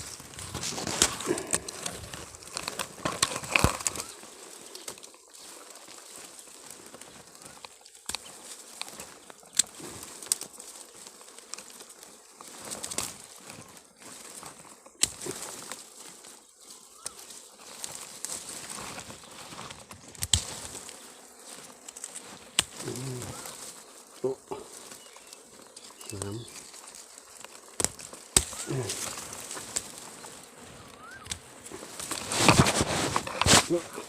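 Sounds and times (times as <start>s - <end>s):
leaves and twigs rustling and snapping: 0.0s - 34.0s.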